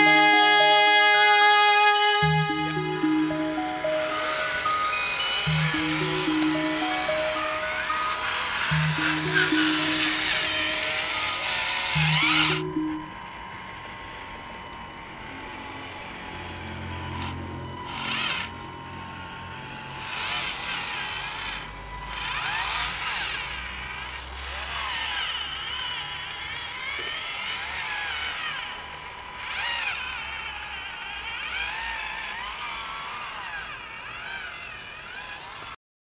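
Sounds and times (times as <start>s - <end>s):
electric motors whining: 0.0s - 35.8s.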